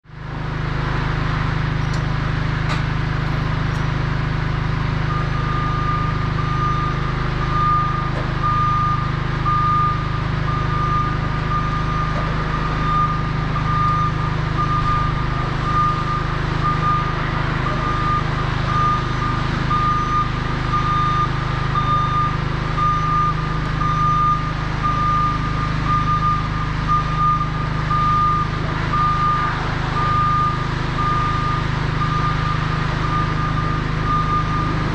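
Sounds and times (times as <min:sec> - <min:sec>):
steady low hum: 0:00.2 - 0:34.9
warning beeper beeping: 0:05.1 - 0:34.9.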